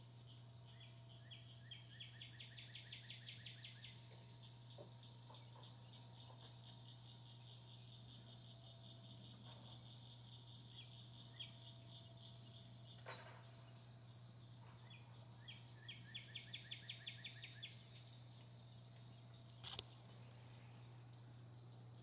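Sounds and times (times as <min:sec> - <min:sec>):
insects chirping: 0:00.0 - 0:22.0
steady low hum: 0:00.0 - 0:22.0.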